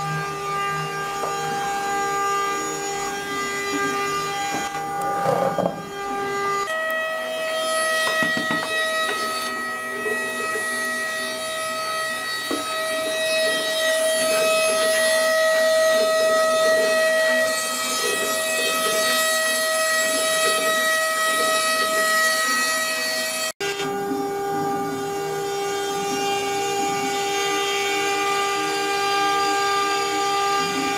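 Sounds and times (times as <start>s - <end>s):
machine whine: 0.0s - 30.9s
router bit cutting wood: 0.0s - 30.9s.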